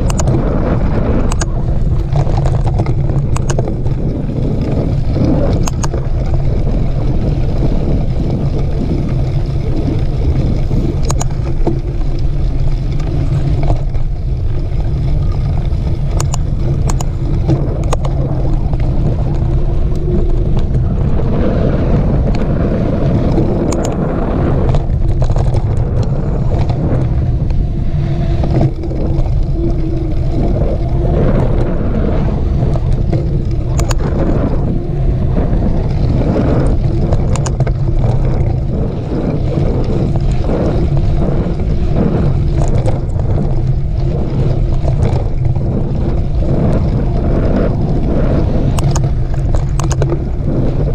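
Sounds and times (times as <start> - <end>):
bike rattles and clicks: 0.0 - 50.9
bike rumbling on dirt trail: 0.0 - 50.9
wind buffeting microphone: 0.0 - 50.9.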